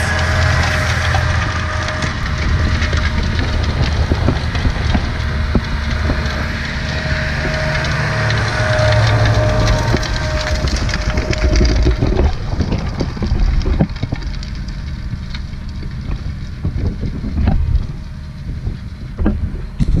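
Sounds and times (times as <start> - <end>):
harrow discs crunching soil: 0.0 - 20.0
tractor engine hum: 0.0 - 20.0.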